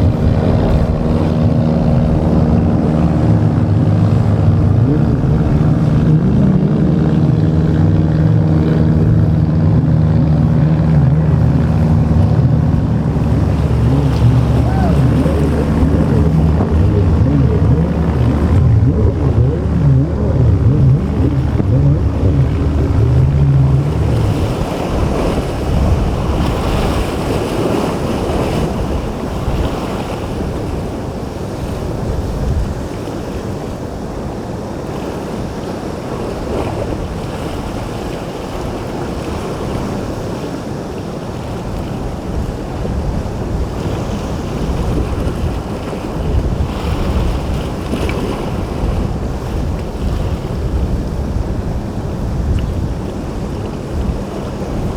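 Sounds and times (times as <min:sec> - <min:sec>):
boat engines droning: 0:00.0 - 0:54.9
rough water and breaking waves: 0:00.0 - 0:54.9
wind buffeting microphone: 0:00.0 - 0:54.9.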